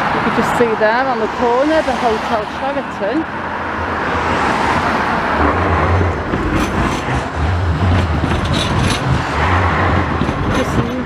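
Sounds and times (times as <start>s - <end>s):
road traffic passing: 0.0s - 11.0s
tram running on tracks: 0.0s - 11.0s.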